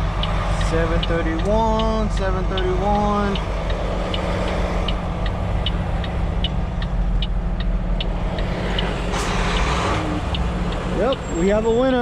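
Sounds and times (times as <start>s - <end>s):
diesel truck engine running: 0.0s - 12.0s
flasher relay ticking: 0.1s - 8.9s, 10.3s - 11.3s.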